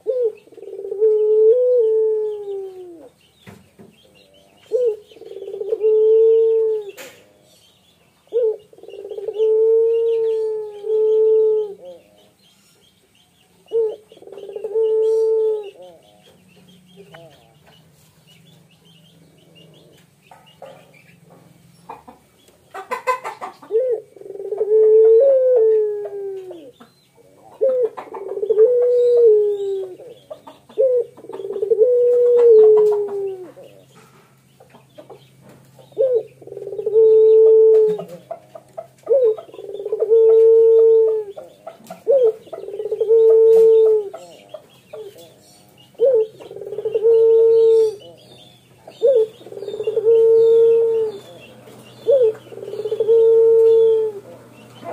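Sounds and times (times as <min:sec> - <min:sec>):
dove cooing: 0:00.0 - 0:03.2, 0:04.0 - 0:07.6, 0:08.2 - 0:12.4, 0:13.6 - 0:17.8, 0:19.1 - 0:21.0, 0:21.9 - 0:35.2, 0:35.8 - 0:54.9.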